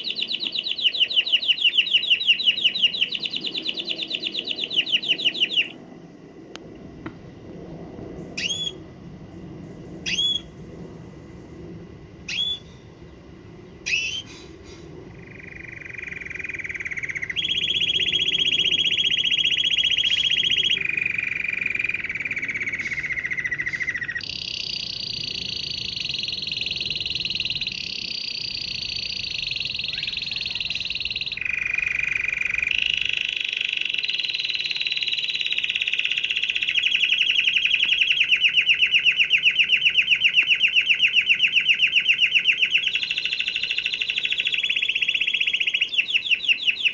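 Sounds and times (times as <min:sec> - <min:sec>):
canary singing rolling trills: 0:00.0 - 0:05.9, 0:08.0 - 0:46.9.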